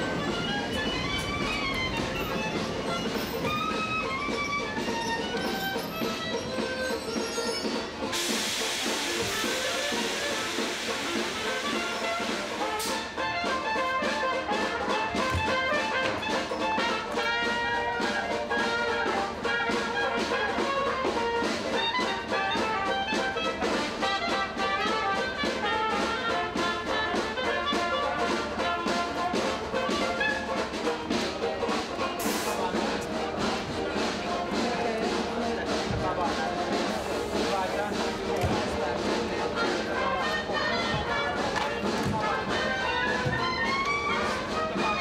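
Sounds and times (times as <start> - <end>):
jazz band playing: 0.0 - 45.0.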